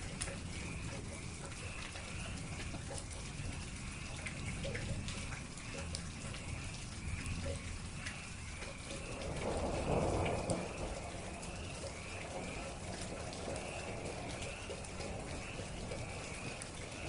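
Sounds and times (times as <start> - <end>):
rushing water: 0.0 - 17.0
steady rain: 0.0 - 17.0.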